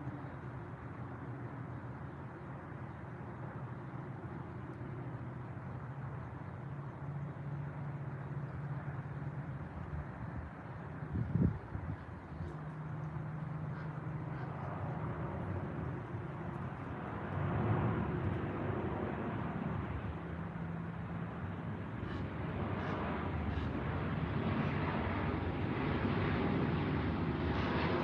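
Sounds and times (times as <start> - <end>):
distant engine drone: 0.0 - 28.0.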